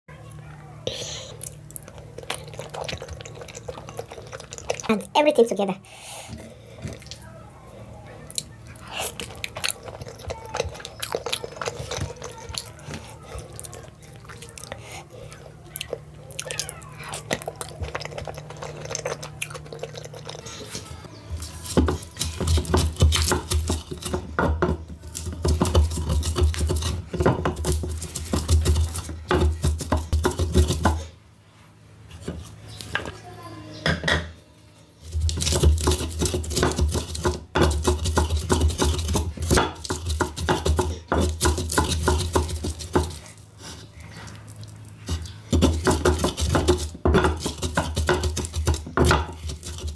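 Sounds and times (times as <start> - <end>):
wooden pestle grinding in clay bowl: 2.0 - 5.0, 8.9 - 31.1, 35.0 - 49.9.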